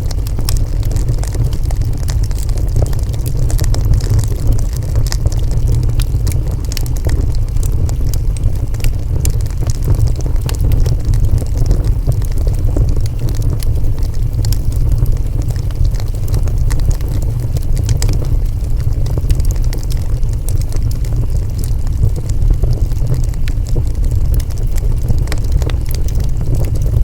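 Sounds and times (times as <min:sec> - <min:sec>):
burning wood crackling: 0:00.0 - 0:27.0
fire low rumble: 0:00.0 - 0:27.0.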